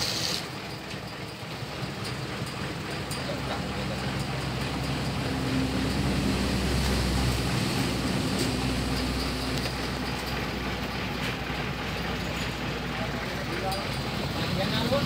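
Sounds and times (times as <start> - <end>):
outdoor noise: 0.0 - 15.0
vehicle engine humming: 0.0 - 15.0.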